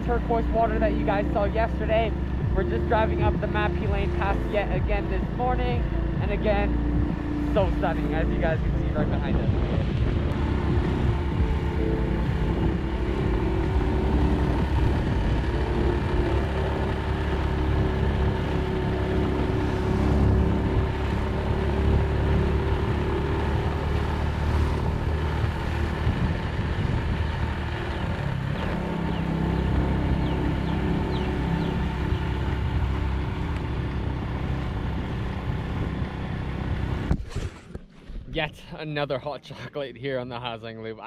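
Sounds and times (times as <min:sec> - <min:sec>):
motorbike engine running: 0:00.0 - 0:37.3
low rumble: 0:00.0 - 0:38.8.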